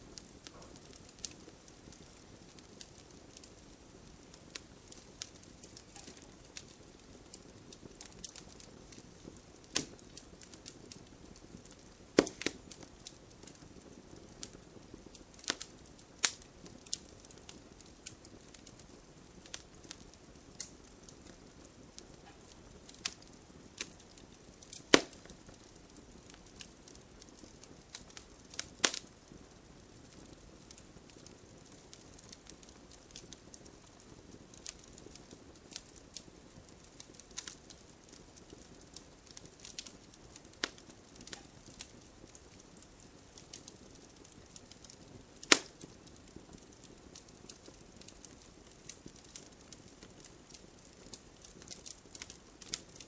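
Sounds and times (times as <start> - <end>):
gentle rain hiss: 0.0 - 53.0
wood fire crackling: 0.0 - 53.0.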